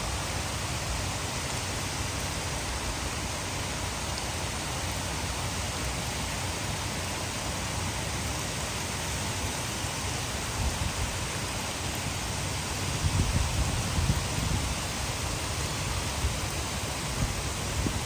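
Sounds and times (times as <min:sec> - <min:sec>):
heavy rain: 0:00.0 - 0:18.0
water pouring over a dam: 0:00.0 - 0:18.0.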